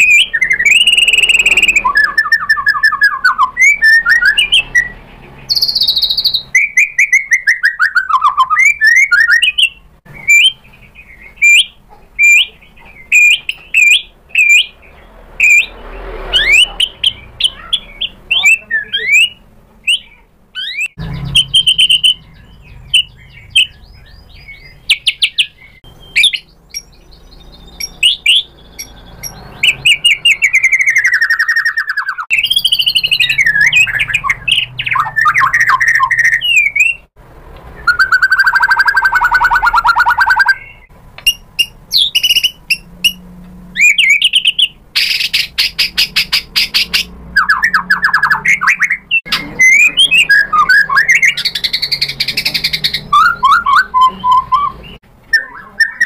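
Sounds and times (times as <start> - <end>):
bird singing whistles: 0.0 - 14.8, 15.4 - 37.1, 37.8 - 43.2, 43.8 - 56.0.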